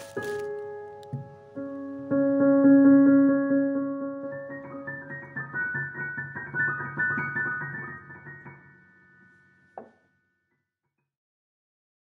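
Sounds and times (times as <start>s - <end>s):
piano notes: 0.0s - 9.7s.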